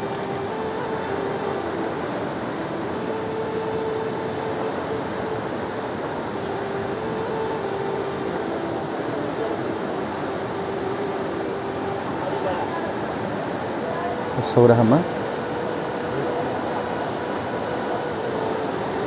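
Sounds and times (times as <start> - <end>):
faint mid-pitched hum: 0.0 - 19.0
flooded river rushing: 0.0 - 19.0.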